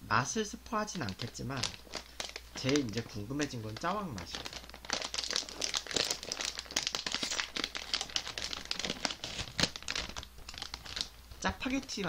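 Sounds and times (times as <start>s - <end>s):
plastic chip bag crinkling: 0.9s - 12.0s.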